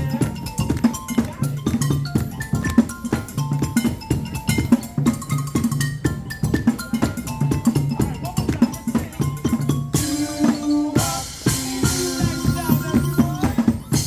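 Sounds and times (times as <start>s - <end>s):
upbeat percussion music: 0.0s - 14.0s.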